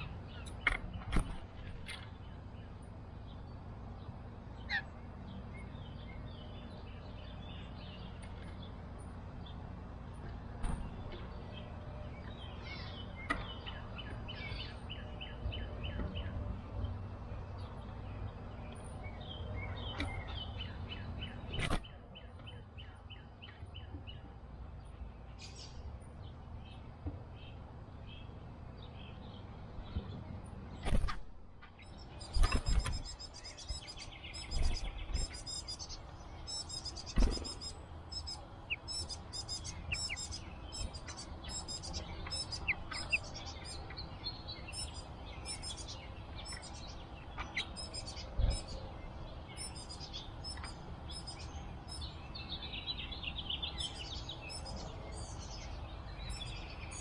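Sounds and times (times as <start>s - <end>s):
birds chirping: 0.0s - 57.0s
low outdoor rumble: 0.0s - 57.0s.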